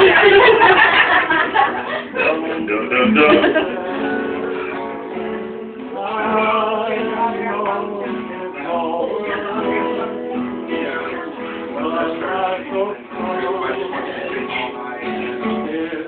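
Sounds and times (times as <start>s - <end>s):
men singing: 0.0s - 16.0s
strummed acoustic guitar: 0.0s - 16.0s.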